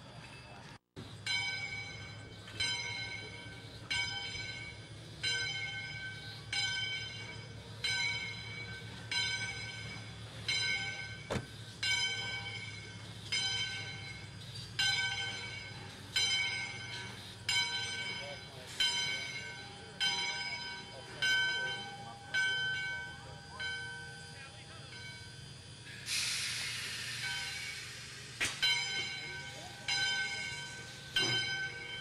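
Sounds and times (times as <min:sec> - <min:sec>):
locomotive bell ringing: 0:00.0 - 0:32.0.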